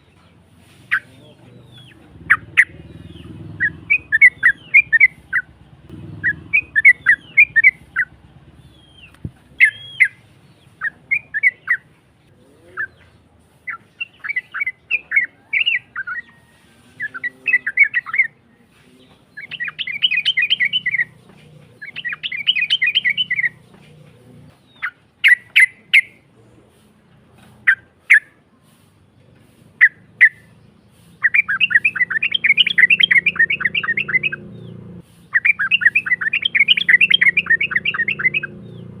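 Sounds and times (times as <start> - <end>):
bulbul singing: 0.0 - 26.3, 29.7 - 39.0.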